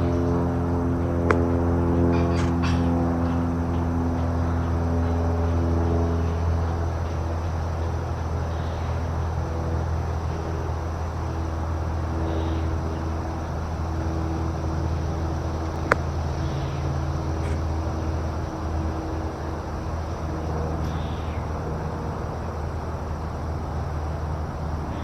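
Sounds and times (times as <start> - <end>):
vehicle traffic rumble: 0.0 - 25.0.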